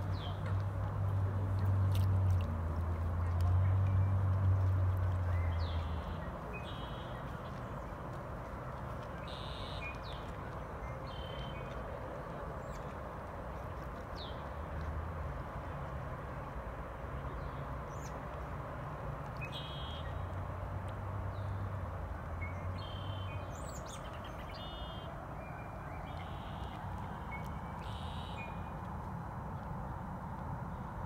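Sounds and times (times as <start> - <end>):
outdoor background noise: 0.0 - 31.0.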